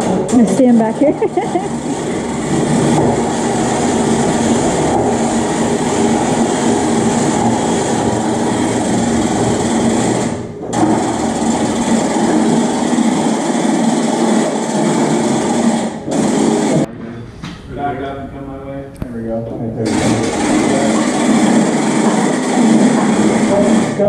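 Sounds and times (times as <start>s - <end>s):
lifting machine engine running: 0.0s - 18.1s, 19.7s - 24.0s.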